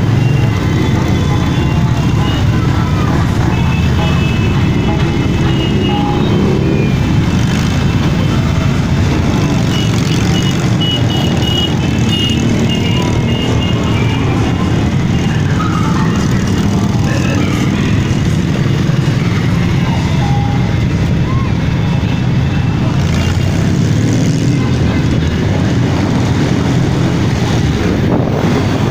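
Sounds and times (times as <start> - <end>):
motorcycle engines rumbling: 0.0 - 28.9.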